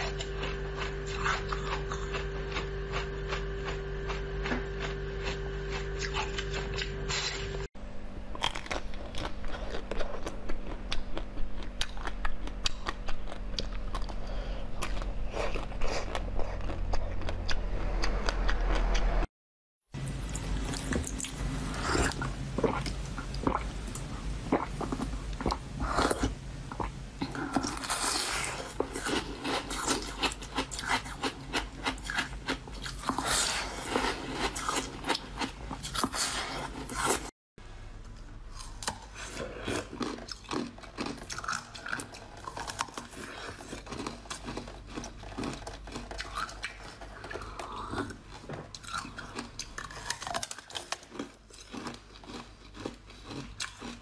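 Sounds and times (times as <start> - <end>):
crunching and chewing frozen food: 0.0 - 19.3, 20.1 - 37.3, 38.5 - 54.0
steady low hum: 0.0 - 19.3, 19.9 - 54.0.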